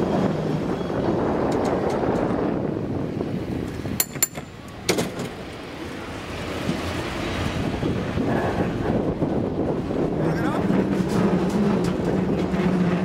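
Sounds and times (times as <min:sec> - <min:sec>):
cable car wheels rumbling on rail: 0:00.0 - 0:13.0.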